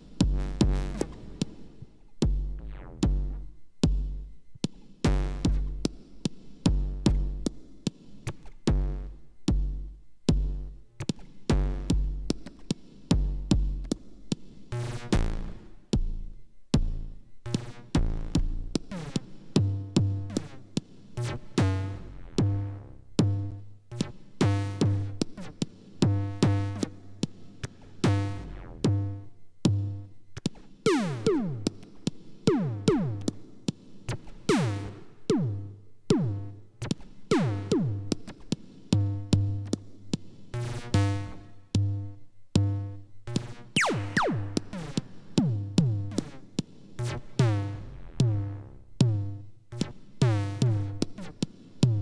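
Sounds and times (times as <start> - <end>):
synthesized kick drums thumping: 0.0 - 52.0.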